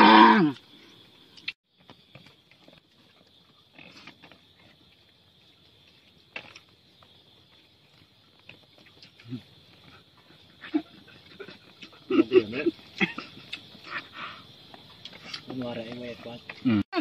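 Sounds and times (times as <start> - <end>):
night insects humming: 0.0 - 17.0
chewing: 1.4 - 12.1, 12.7 - 15.6
soft clicks and rustles eating: 1.4 - 12.1, 12.7 - 16.6.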